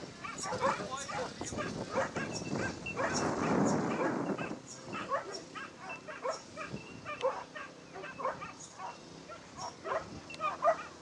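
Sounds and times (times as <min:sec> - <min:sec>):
dogs yelping and barking: 0:00.2 - 0:11.0.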